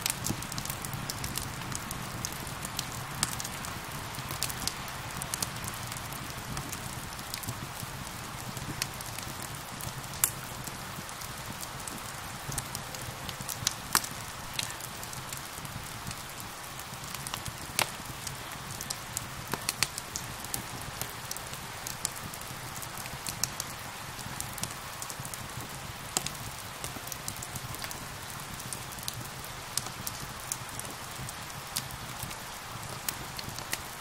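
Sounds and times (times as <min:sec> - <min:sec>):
fire crackling and popping: 0:00.0 - 0:34.0
steady rain: 0:00.0 - 0:34.0.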